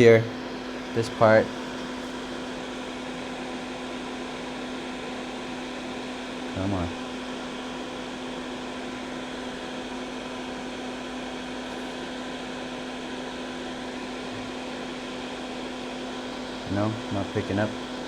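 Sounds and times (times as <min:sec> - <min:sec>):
electric hum with fan rush: 0:00.0 - 0:18.0.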